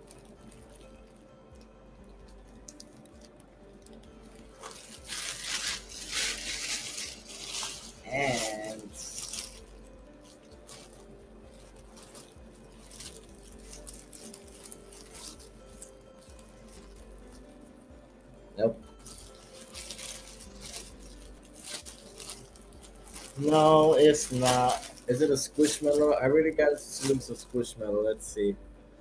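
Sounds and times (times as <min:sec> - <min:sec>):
plastic bag crinkling and tearing: 0:00.0 - 0:17.6, 0:18.9 - 0:27.7
faint background music: 0:00.0 - 0:29.0.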